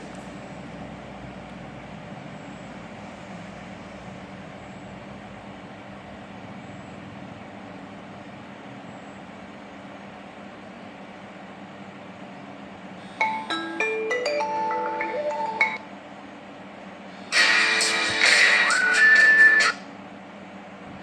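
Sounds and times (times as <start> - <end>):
low background rumble and hum: 0.0 - 21.0.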